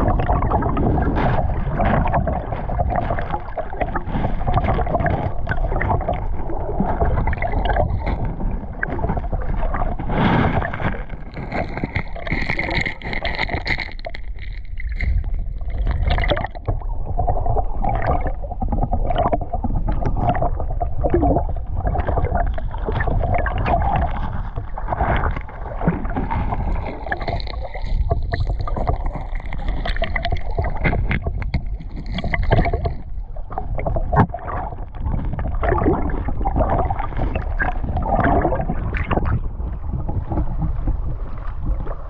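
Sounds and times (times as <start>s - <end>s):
water splashing and sloshing: 0.0s - 42.0s.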